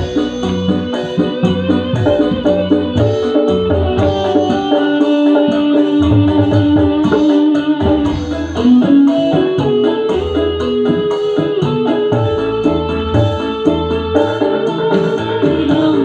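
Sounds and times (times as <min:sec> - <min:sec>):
bass line: 0:00.0 - 0:16.0
held keyboard notes: 0:00.0 - 0:16.0
light hand percussion: 0:00.0 - 0:16.0.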